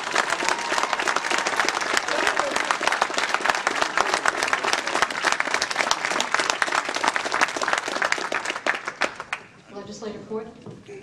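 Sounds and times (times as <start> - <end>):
large crowd applauding: 0.0 - 9.6.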